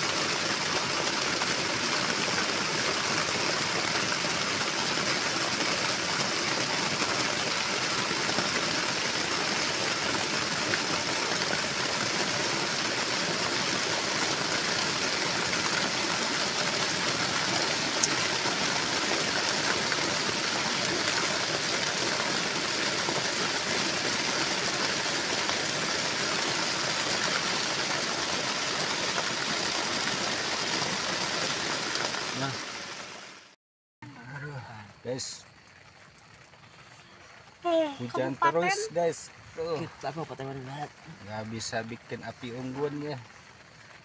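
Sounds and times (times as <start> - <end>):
heavy rain falling: 0.0 - 33.5, 34.3 - 44.0.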